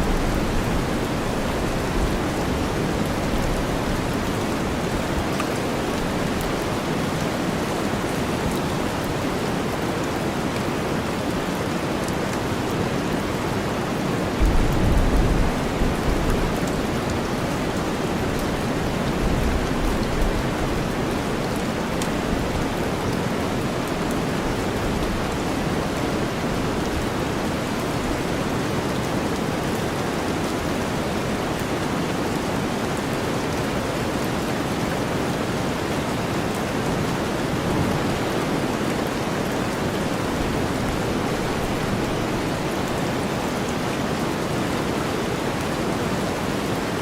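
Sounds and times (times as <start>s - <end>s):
steady rainfall hiss: 0.0s - 47.0s.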